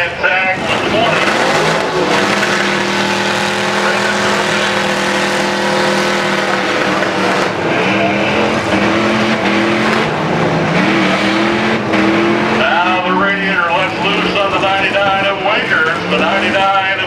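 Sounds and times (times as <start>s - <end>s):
tire noise: 0.0s - 17.0s
truck engines revving: 0.0s - 17.0s.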